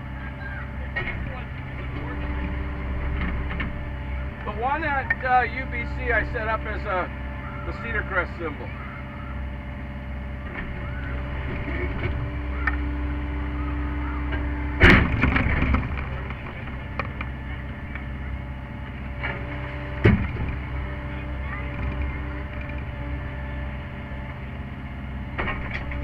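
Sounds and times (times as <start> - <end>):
excavator engine hum: 0.0 - 26.0
hydraulic whine: 0.0 - 26.0.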